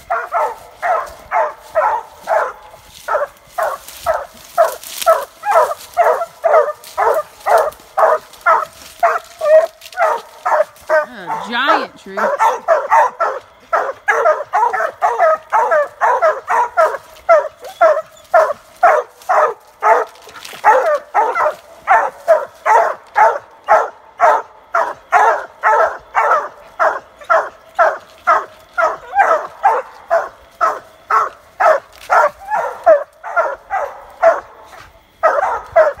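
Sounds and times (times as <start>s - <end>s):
hounds barking: 0.0s - 36.0s.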